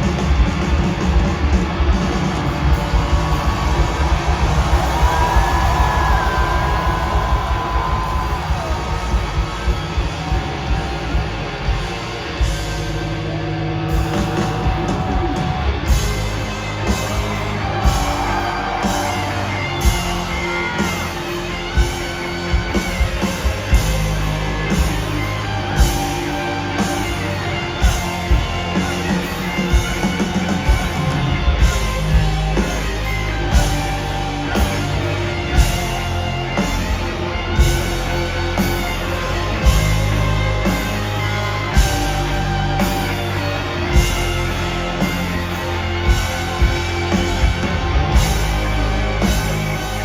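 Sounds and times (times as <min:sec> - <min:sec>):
electric guitar: 0:00.0 - 0:50.0
steady drum beat: 0:00.0 - 0:50.0.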